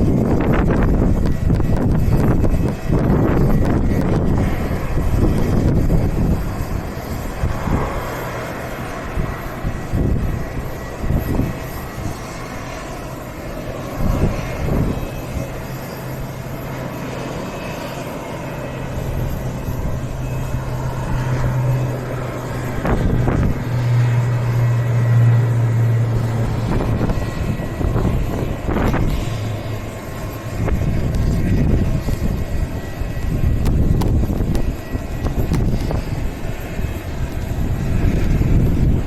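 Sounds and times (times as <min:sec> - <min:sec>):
propeller airliner engines humming: 0:00.0 - 0:39.0.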